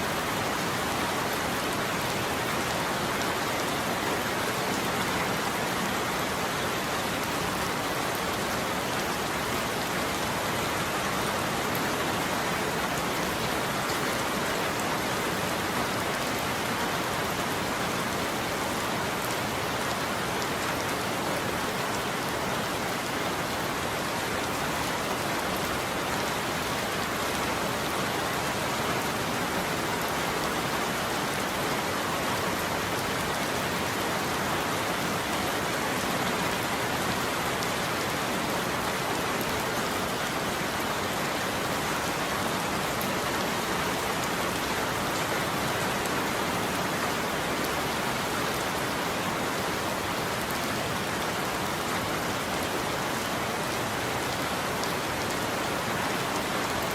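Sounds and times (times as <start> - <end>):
rain falling on a surface: 0.0 - 56.9.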